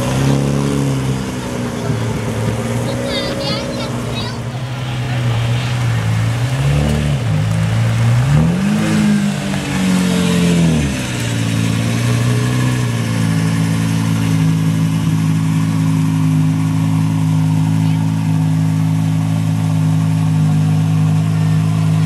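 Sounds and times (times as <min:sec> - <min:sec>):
sports car engine revving and idling: 0:00.0 - 0:22.0.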